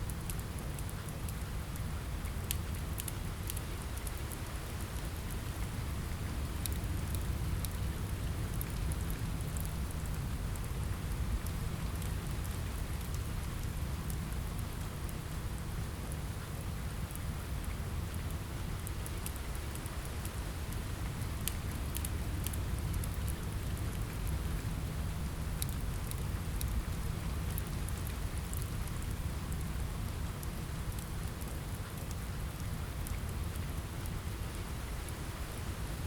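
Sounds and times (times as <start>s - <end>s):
rain pattering on a window: 0.0s - 36.0s
wood fire crackling: 0.0s - 36.0s.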